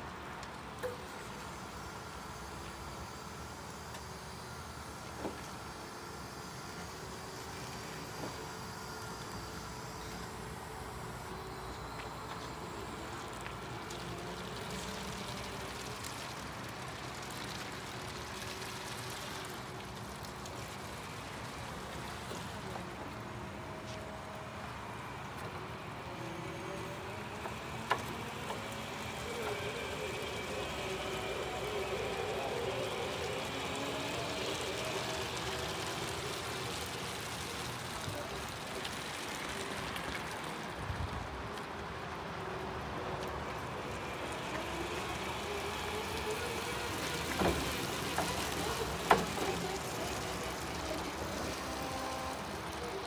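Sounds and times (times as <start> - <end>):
faint electric motor whine: 0.0 - 53.0.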